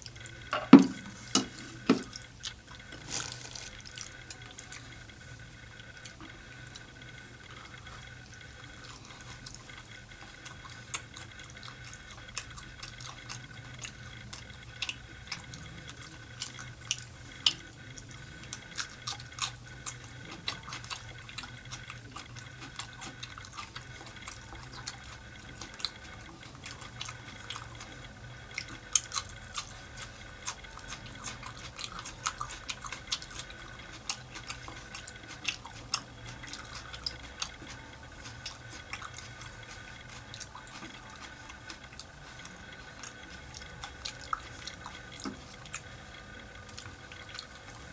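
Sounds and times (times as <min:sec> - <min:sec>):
wet chewing and mouth smacks: 0:00.0 - 0:47.9.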